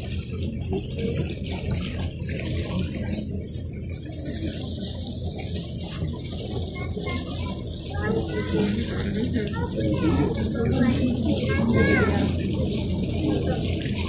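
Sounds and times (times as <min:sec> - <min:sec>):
sea water rushing along hull: 0:00.0 - 0:14.0.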